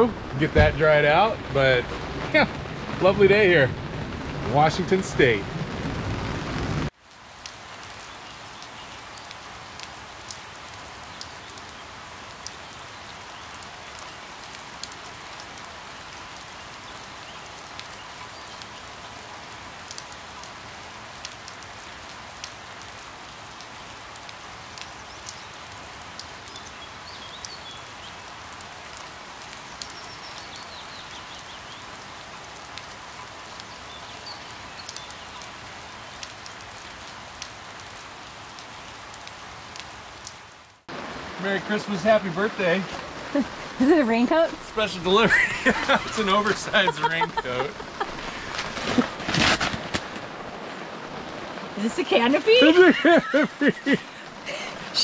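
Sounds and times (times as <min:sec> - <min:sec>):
sharp ticks of raindrops: 0:00.0 - 0:55.0
steady rain: 0:00.0 - 0:55.0.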